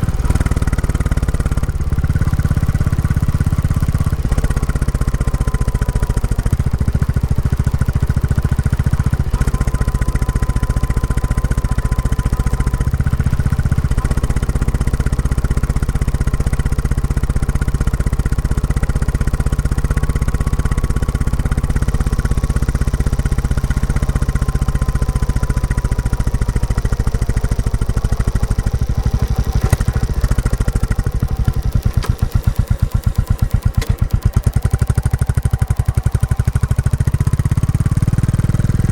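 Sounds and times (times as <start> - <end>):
motorcycle engine thumping: 0.0 - 38.9.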